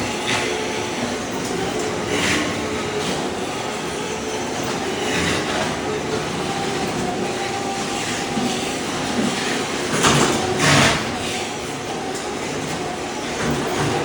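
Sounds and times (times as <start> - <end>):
floor stripper grinding scrape: 0.0 - 14.0.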